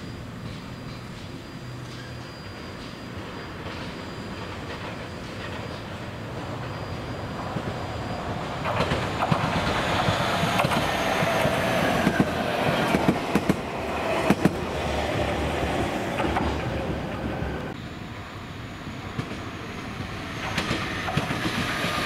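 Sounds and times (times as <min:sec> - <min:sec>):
electric train whine: 0:00.0 - 0:22.0
train wheels clicking over rails: 0:00.4 - 0:17.8, 0:19.2 - 0:22.0.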